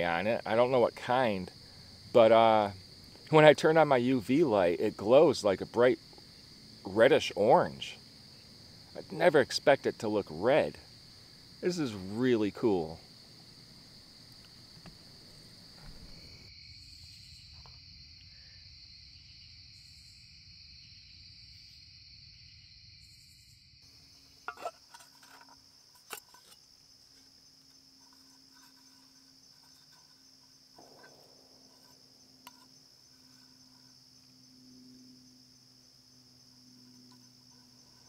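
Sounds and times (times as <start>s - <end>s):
crickets chorus: 0.0s - 38.0s.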